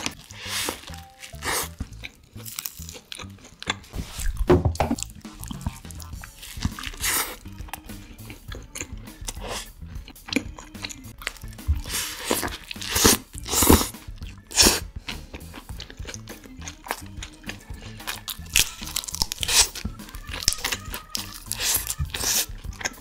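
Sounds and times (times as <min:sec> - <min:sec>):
crunching and chewing food: 0:00.0 - 0:23.0
soft music: 0:00.0 - 0:23.0.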